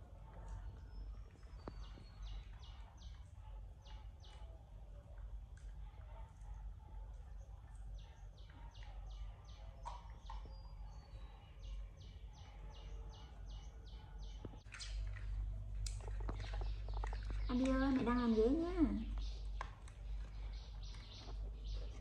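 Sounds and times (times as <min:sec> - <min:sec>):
low steady hum: 0:00.0 - 0:22.0
bird chirping: 0:00.5 - 0:04.5, 0:07.8 - 0:22.0.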